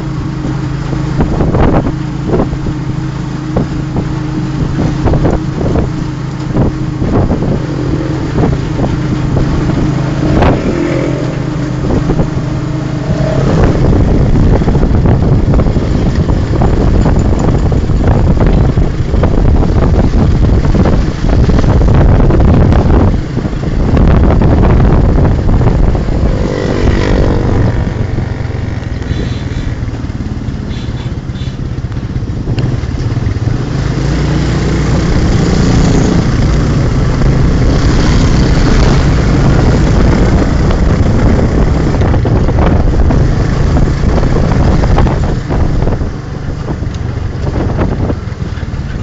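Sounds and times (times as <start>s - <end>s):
motorcycle engine running: 0.0s - 49.0s
wind rumble on microphone: 0.0s - 49.0s.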